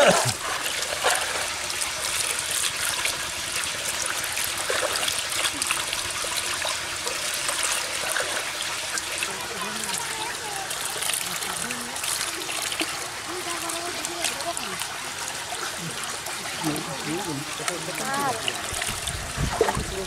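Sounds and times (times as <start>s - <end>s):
water pouring and splashing: 0.0s - 20.0s.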